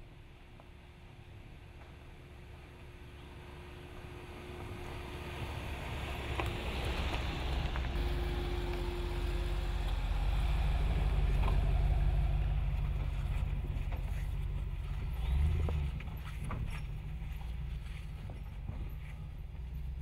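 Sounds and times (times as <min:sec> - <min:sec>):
pickup truck engine rumbling: 0:01.5 - 0:20.0.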